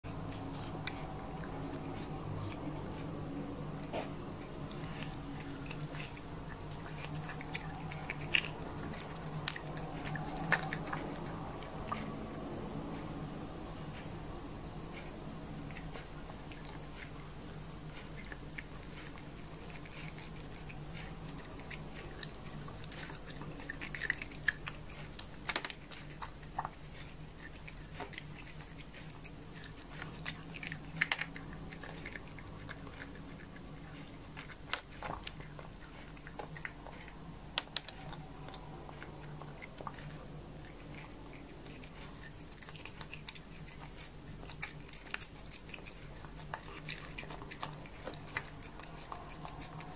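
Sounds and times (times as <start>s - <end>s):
steady low hum: 0.0s - 49.9s
cat licking and chewing: 0.1s - 49.9s
crunches of biting treat: 3.8s - 12.2s, 18.0s - 49.9s.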